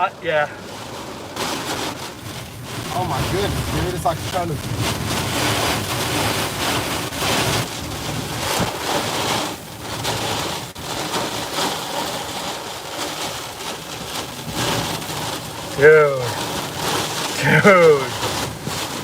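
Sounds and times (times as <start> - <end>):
wind driving rain against truck: 0.0 - 19.0.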